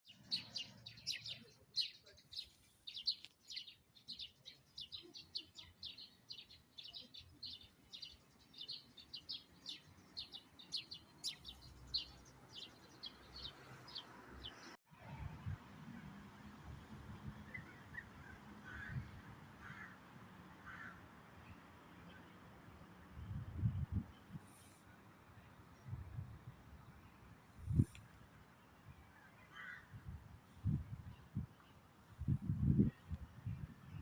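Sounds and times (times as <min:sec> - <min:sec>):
songbirds chirping: 0:00.1 - 0:14.8, 0:16.3 - 0:34.0.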